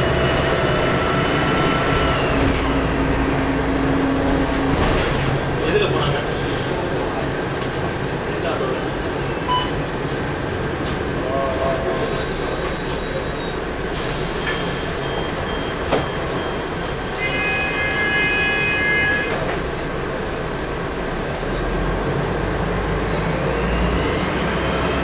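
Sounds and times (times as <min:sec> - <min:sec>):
bus engine rumble interior: 0:00.0 - 0:25.0.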